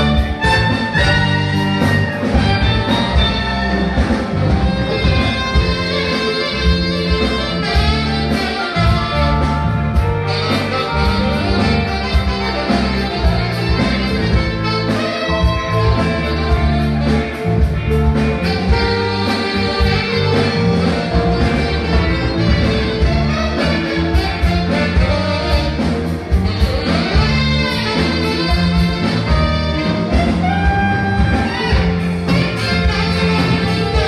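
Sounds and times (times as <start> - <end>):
live band playing: 0.0 - 34.0
saxophone lead: 0.0 - 34.0
trumpet: 0.0 - 34.0.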